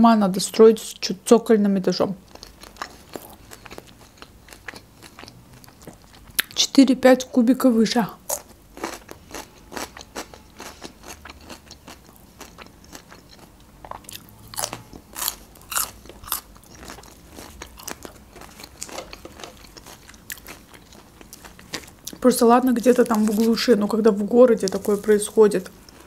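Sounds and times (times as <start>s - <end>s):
chewing crisp onion: 2.2s - 6.6s, 8.2s - 26.0s.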